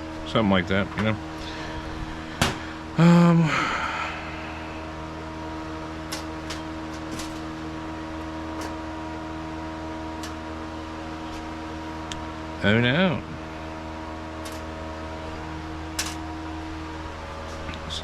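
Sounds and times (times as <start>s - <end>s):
electric motor hum: 0.0s - 18.0s.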